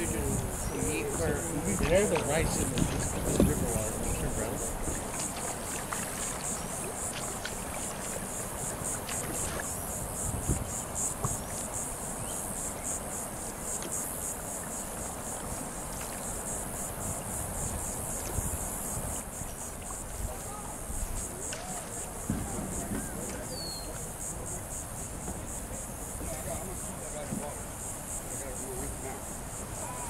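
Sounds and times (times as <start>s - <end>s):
insects chirping: 0.0s - 30.0s
water and paddling: 0.0s - 30.0s.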